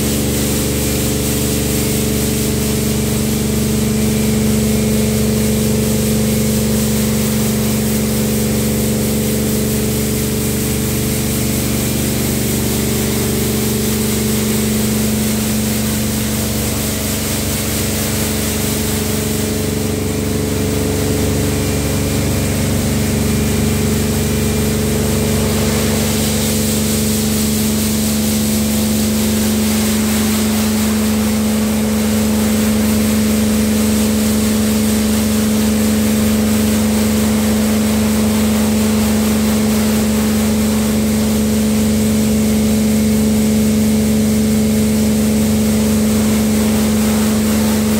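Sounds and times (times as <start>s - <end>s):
high-pressure water jets hissing: 0.0s - 42.6s, 44.2s - 47.9s
pump and motor hum: 0.0s - 47.9s.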